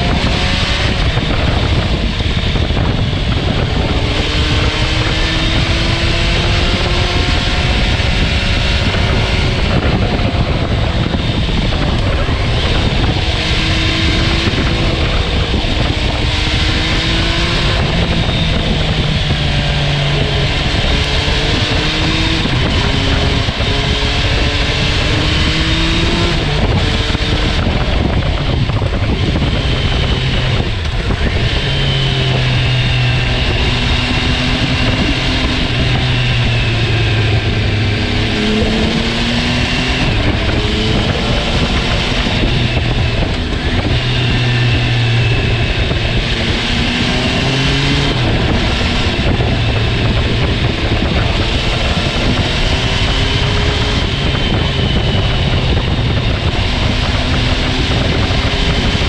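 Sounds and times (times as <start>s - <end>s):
motorcycle engine revving through gears: 0.0s - 59.0s
wind rush on microphone: 0.0s - 59.0s.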